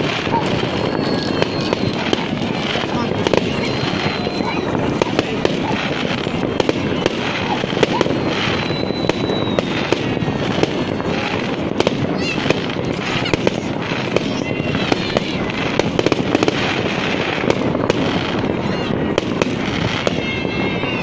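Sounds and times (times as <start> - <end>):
firework whistles: 0.0 - 21.0
fireworks crackling and popping: 0.0 - 21.0.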